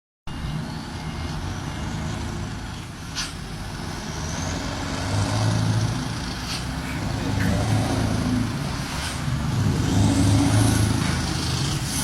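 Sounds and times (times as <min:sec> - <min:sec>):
diesel truck engine rumbling: 0:00.3 - 0:12.0.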